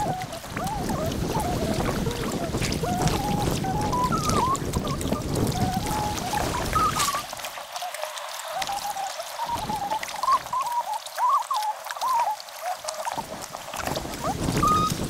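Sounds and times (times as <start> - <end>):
paddle water trickling and pouring: 0.0 - 15.0.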